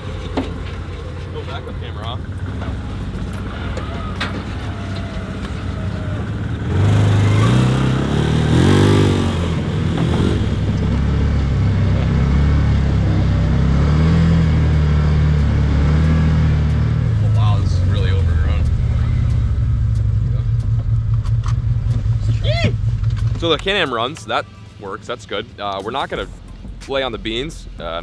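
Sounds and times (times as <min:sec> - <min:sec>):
engine idling and revving: 0:00.0 - 0:28.0.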